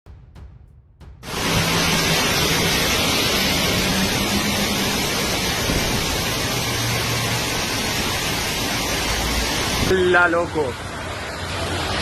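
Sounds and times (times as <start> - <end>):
flood water rushing: 1.2 - 12.0.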